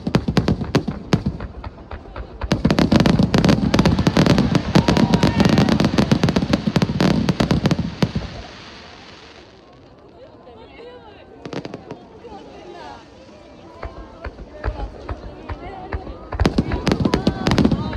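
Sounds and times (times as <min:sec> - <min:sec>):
fireworks crackling and popping: 0:00.0 - 0:17.9.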